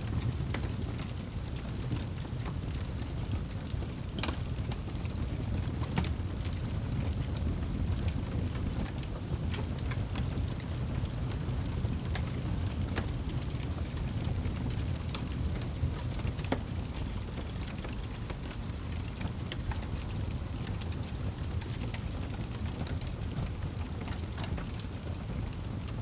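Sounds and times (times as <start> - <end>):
steady rain: 0.0 - 26.0
crackling fire with sharp pops: 0.1 - 26.0.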